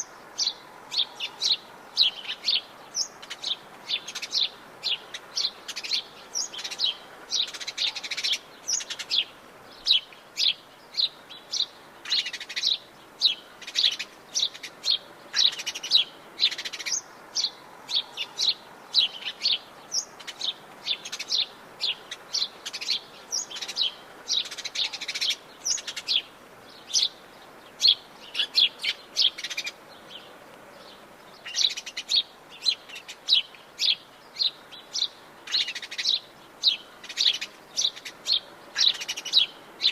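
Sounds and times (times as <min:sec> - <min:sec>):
birds chirping and calling: 0:00.0 - 0:39.9
faint steady hiss: 0:00.0 - 0:39.9.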